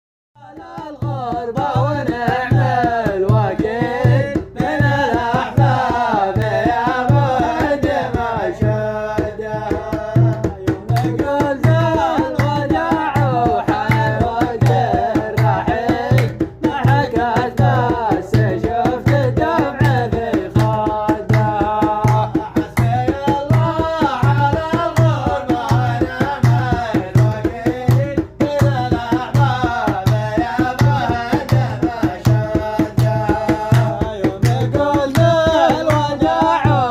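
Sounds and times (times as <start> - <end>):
hand drum beat: 0.5 - 36.9.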